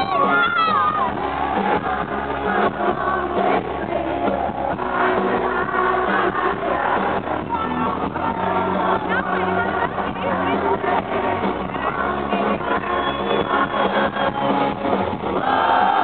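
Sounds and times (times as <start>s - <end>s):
live rock band playing: 0.0s - 15.4s.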